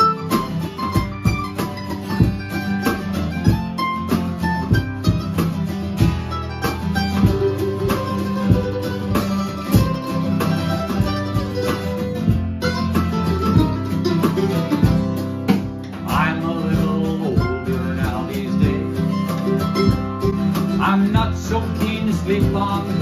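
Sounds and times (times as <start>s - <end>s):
drum kit beat with cymbal: 0.0s - 23.0s
mandolin picking: 0.0s - 23.0s
strummed acoustic guitar: 0.0s - 23.0s.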